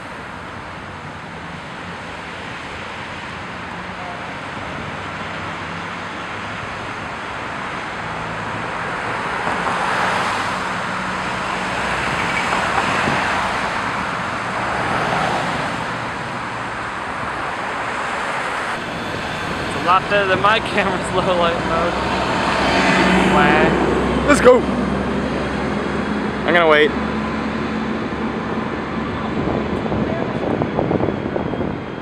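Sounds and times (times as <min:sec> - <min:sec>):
cars passing close: 0:00.0 - 0:32.0
city street traffic: 0:00.0 - 0:32.0.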